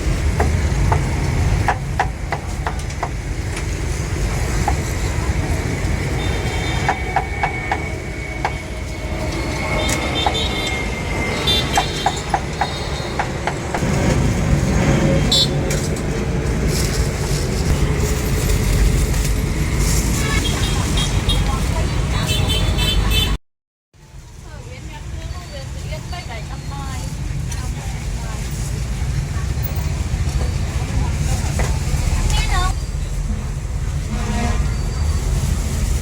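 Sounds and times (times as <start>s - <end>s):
low traffic rumble: 0.0s - 23.4s, 24.0s - 36.0s.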